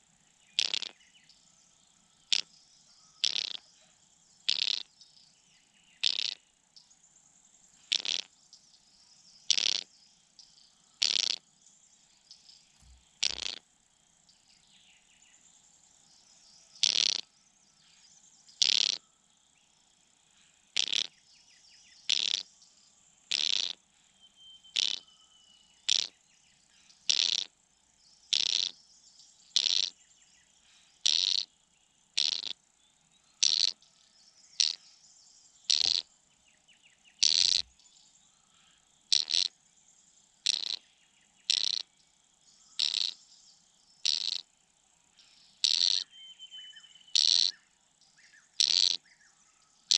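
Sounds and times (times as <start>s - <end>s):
faint high insect trill: 0.0s - 49.9s
loud rasping insect calls: 0.0s - 49.9s.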